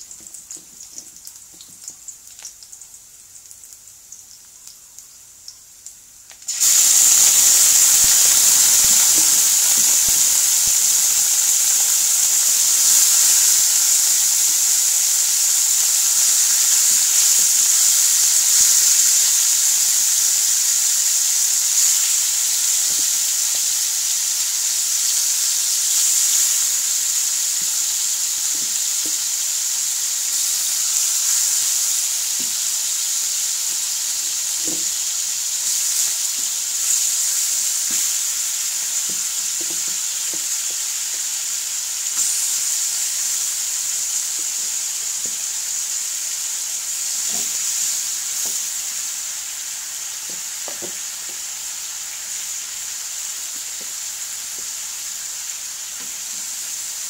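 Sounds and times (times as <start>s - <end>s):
chicken sizzling in a wok: 0.0s - 57.0s.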